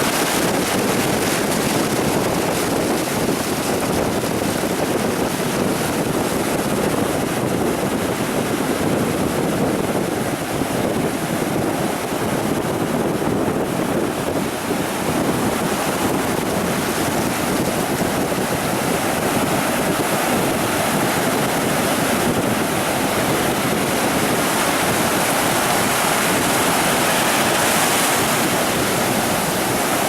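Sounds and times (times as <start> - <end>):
ocean surf rushing: 0.0 - 30.0
wind on microphone: 0.0 - 30.0.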